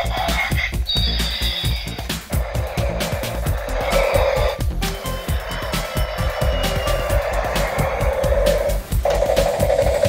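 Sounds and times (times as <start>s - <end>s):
music with fast beat: 0.0s - 10.0s.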